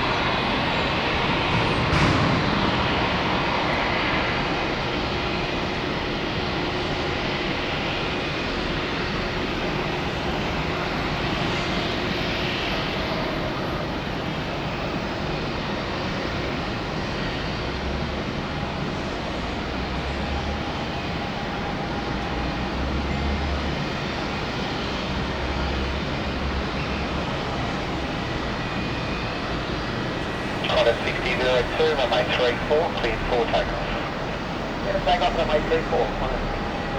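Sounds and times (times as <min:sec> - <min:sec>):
jet airliner engines running: 0:00.0 - 0:36.9.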